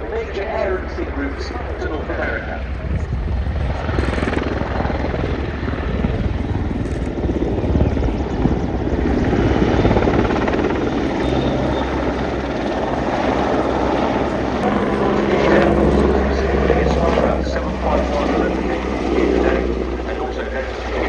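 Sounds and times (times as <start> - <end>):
aircraft engine drone: 0.0 - 21.0.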